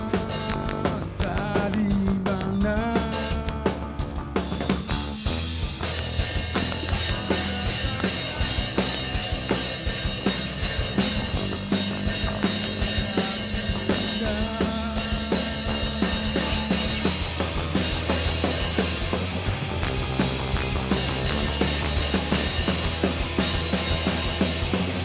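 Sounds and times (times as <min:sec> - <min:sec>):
bass guitar: 0:00.0 - 0:25.0
drum kit beat: 0:00.0 - 0:25.0
electric guitar: 0:00.0 - 0:25.0.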